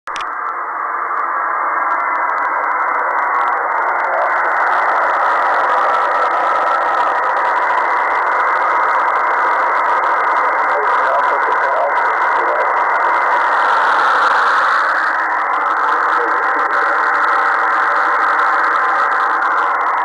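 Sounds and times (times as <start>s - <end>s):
radio static hiss: 0.1s - 20.0s.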